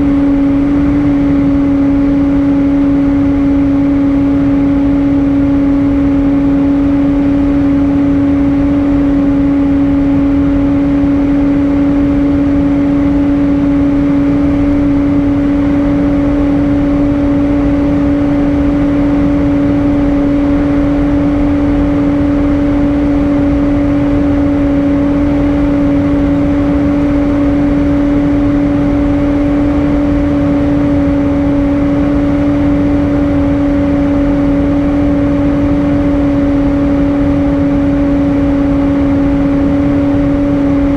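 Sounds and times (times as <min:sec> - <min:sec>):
airplane cabin noise: 0:00.0 - 0:40.9.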